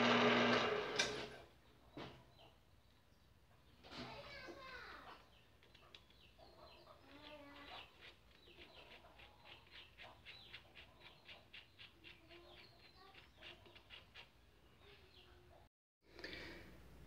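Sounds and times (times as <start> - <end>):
faint birds chirping: 1.4 - 15.7.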